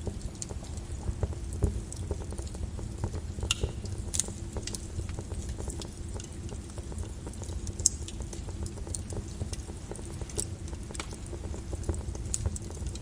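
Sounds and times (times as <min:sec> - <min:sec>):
lava cracking and popping: 0:00.0 - 0:13.0.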